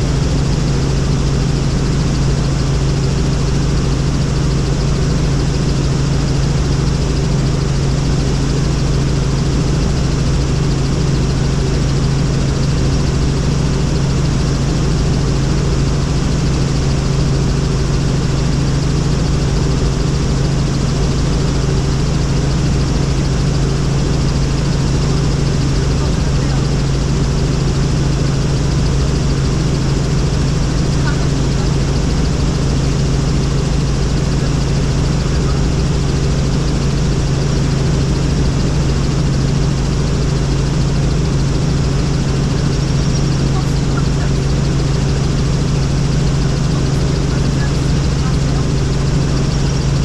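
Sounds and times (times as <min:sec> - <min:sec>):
helicopter rotor drone: 0:00.0 - 0:50.0.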